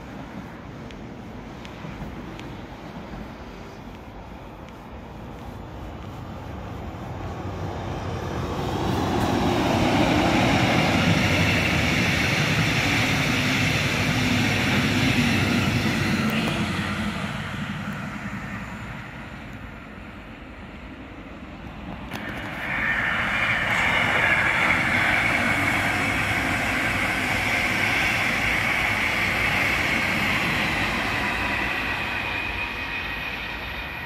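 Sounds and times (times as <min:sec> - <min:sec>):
passenger train passing: 0:00.0 - 0:34.0.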